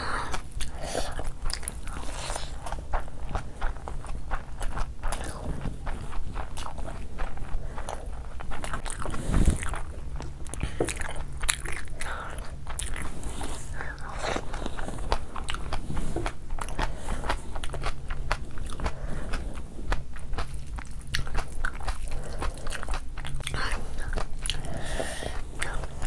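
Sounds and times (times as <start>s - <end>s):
mouth clicks and crunches: 0.0s - 26.0s
person chewing food: 0.0s - 26.0s.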